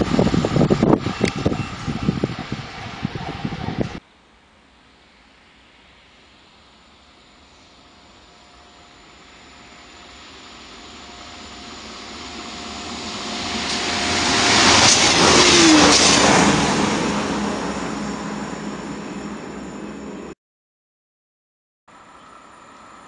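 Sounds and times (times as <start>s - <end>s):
diesel train passing: 0.0s - 20.4s.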